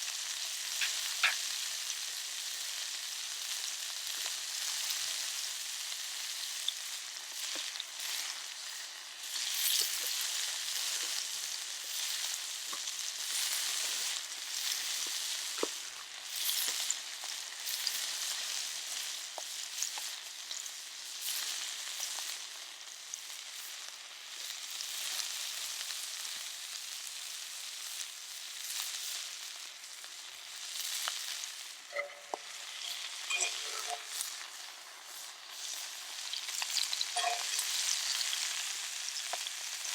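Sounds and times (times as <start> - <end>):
food sizzling in a skillet: 0.0 - 39.9.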